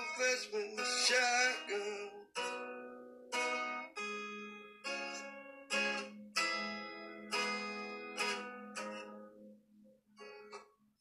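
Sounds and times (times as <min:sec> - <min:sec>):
acoustic guitar strummed chords: 0:00.0 - 0:10.9.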